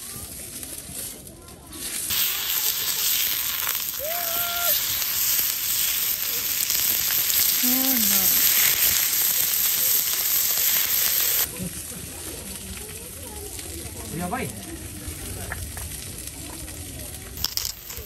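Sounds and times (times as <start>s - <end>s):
steak sizzling on grill: 0.1s - 18.0s.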